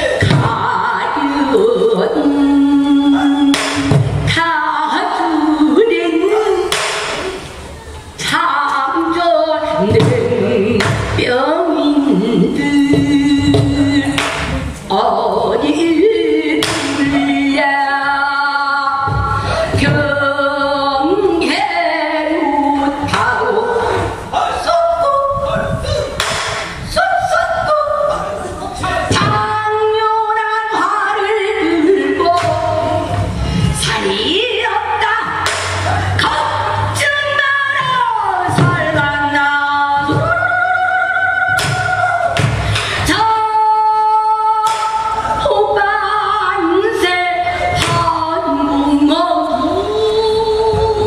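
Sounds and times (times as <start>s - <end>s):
woman singing with vibrato: 0.0s - 51.0s.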